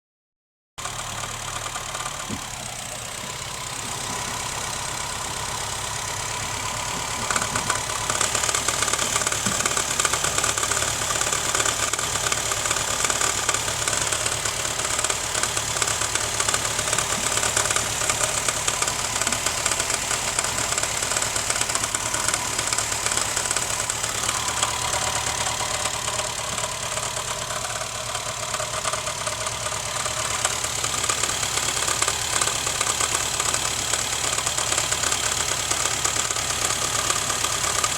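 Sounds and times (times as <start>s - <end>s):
car engine running: 0.8s - 37.9s
fast rattle: 6.0s - 37.9s.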